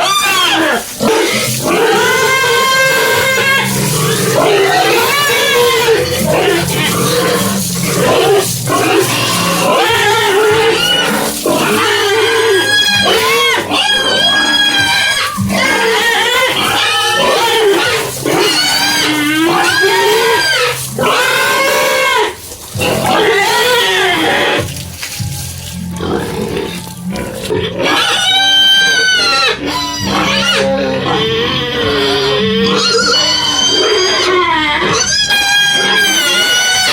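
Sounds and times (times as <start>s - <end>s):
background music with low notes: 0.0s - 36.9s
pigs squealing: 0.0s - 36.9s.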